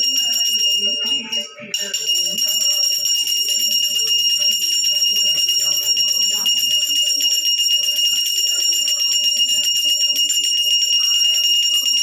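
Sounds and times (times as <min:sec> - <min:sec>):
hand bell rung rapidly: 0:00.0 - 0:12.0.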